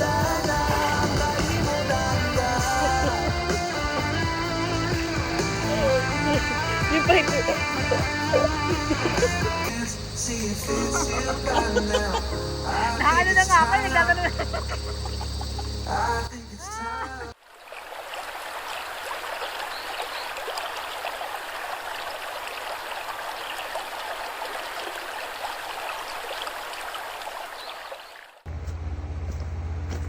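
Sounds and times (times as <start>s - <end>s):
river water running over rocks: 0.0s - 14.4s, 17.4s - 28.4s.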